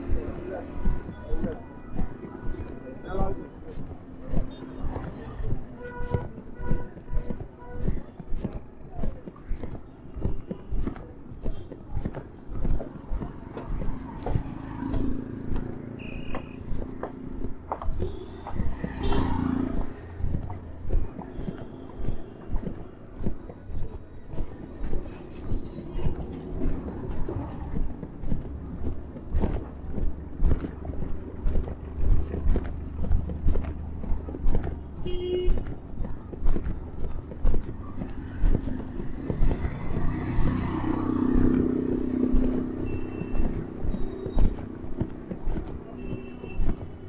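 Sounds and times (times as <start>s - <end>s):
footsteps on pavement: 0.0s - 47.0s
street traffic rumble: 0.0s - 47.0s.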